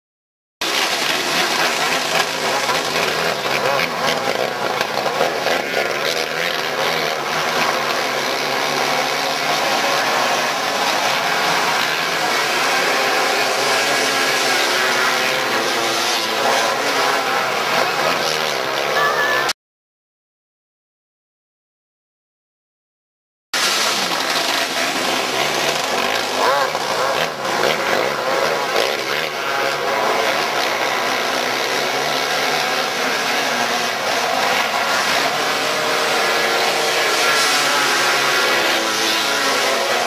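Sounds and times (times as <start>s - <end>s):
kart engines droning at high revs: 0.6s - 19.6s, 23.6s - 40.0s.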